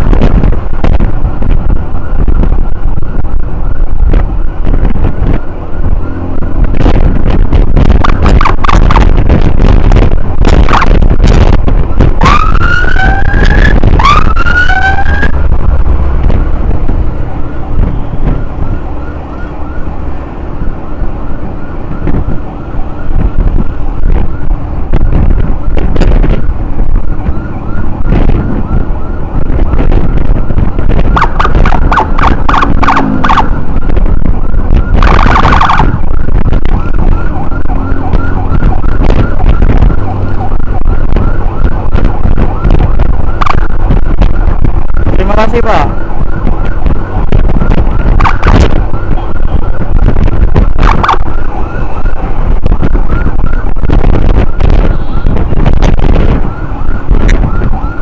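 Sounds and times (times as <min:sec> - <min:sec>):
ambulance siren wailing: 0:00.0 - 0:58.0
wind noise: 0:00.0 - 0:58.0.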